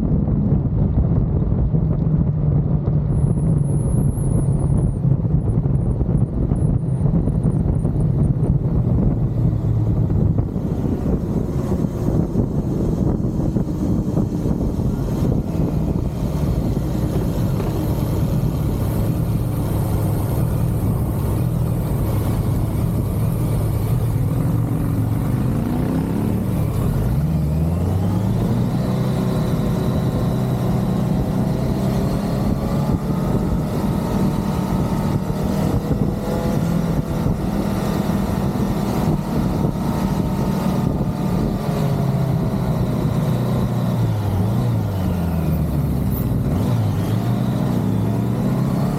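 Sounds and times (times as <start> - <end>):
motorcycle engine running: 0.0 - 48.5.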